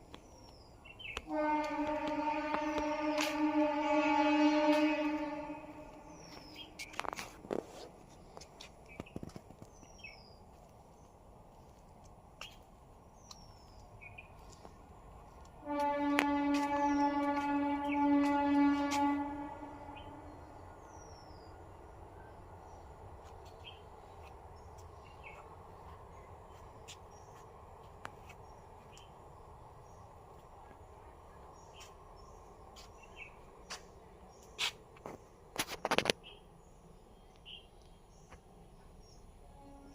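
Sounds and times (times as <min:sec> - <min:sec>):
low bird chirp: 0:00.0 - 0:07.4, 0:12.4 - 0:39.9.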